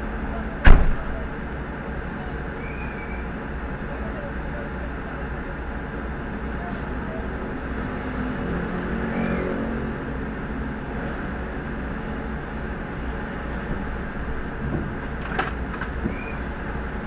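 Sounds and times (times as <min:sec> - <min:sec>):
fire engine idling: 0:00.0 - 0:07.9, 0:10.2 - 0:17.0.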